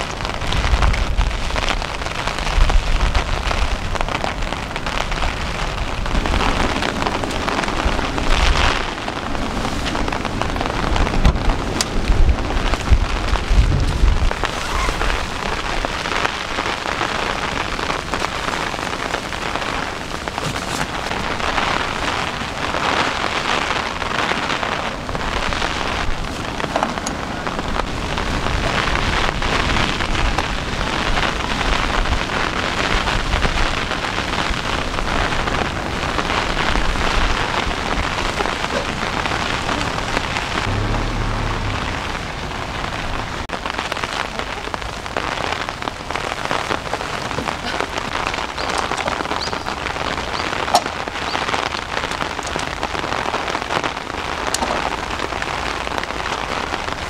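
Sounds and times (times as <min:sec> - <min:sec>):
heavy rain pouring: 0:00.0 - 0:57.0
wind buffeting microphone: 0:00.0 - 0:57.0.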